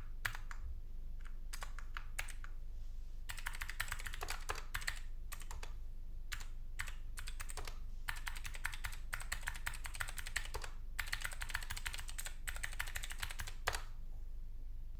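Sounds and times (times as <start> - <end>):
mechanical keyboard typing: 0.2 - 0.6, 1.2 - 2.6, 3.3 - 13.9.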